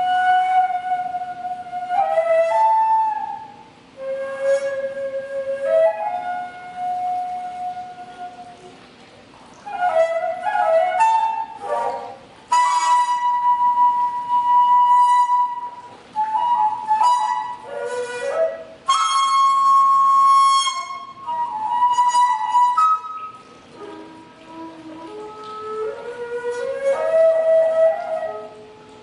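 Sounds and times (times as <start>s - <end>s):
bamboo flute solo: 0.0s - 29.0s.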